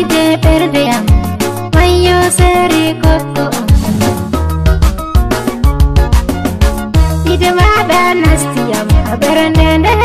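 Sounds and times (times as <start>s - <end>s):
upbeat music with drums and bass: 0.0s - 10.0s.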